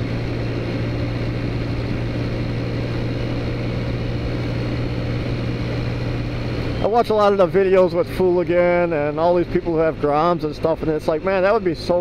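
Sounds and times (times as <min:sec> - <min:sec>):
scooter engine droning: 0:00.0 - 0:12.0
wind and road noise: 0:00.0 - 0:12.0.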